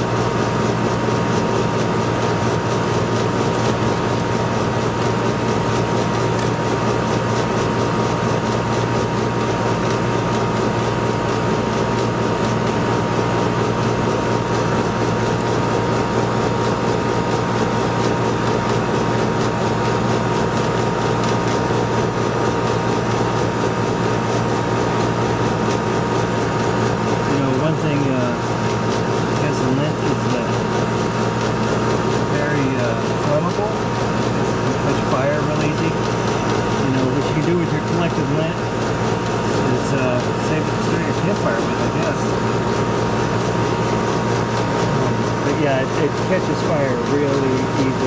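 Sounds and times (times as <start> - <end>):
air conditioner unit humming: 0.0 - 48.0.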